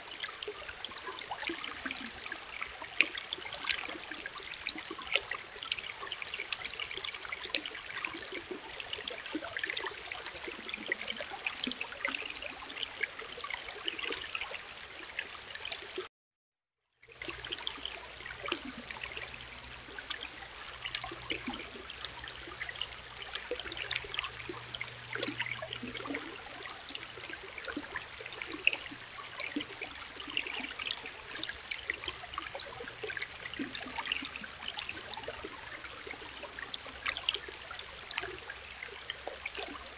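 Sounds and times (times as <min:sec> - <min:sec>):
stream babbling over rocks: 0:00.0 - 0:15.8, 0:17.1 - 0:39.9.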